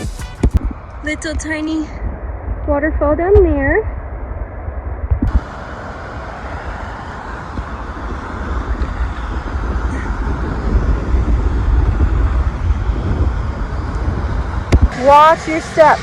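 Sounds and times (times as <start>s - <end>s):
wind buffeting microphone: 0.4s - 16.0s.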